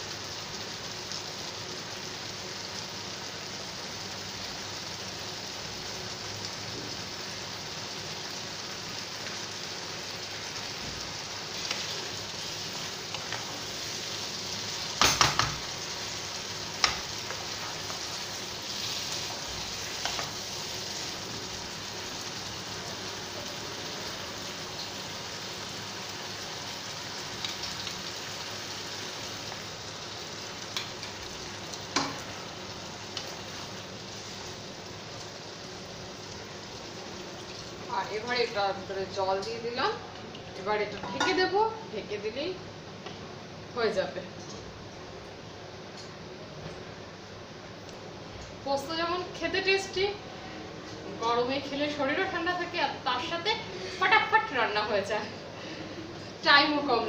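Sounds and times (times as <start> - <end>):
vegetables sizzling in oil: 0.0 - 45.8, 47.2 - 57.0.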